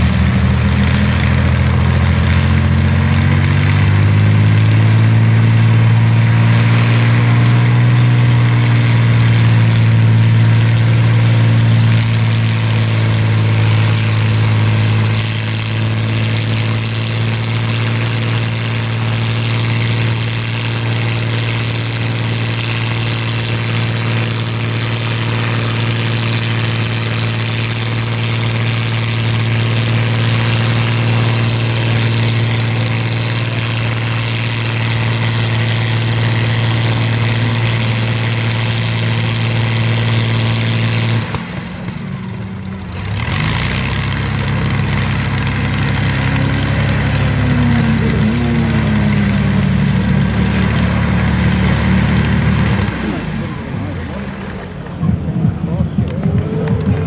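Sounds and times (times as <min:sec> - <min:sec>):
aero engine running: 0:00.0 - 0:57.0.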